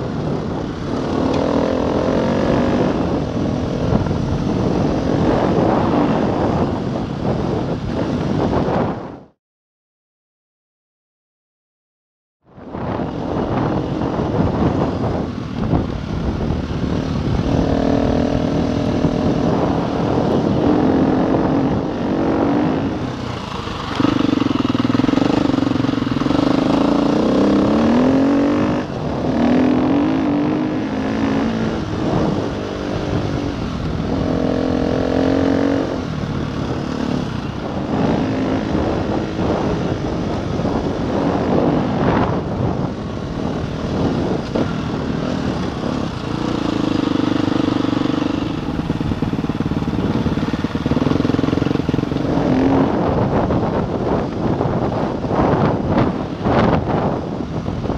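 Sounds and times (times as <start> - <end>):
motorcycle engine revving: 0.0 - 9.2, 12.6 - 57.9
wind and tyre noise: 0.0 - 9.4, 12.4 - 57.9.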